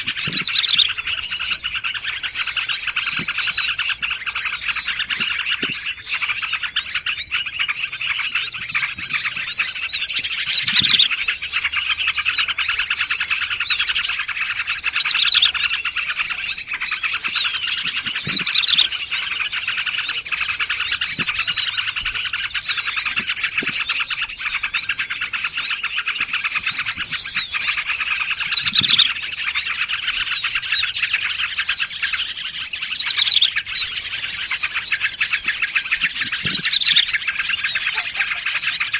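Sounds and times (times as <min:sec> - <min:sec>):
fast high buzzy bird trill: 0:00.0 - 0:38.9
small songbirds chirping and trilling: 0:00.0 - 0:38.9.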